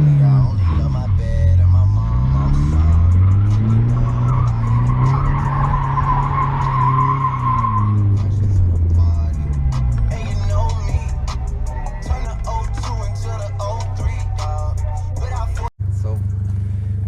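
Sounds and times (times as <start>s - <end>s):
tires spinning and skidding: 0.0s - 14.8s
car engine revving: 0.0s - 17.0s.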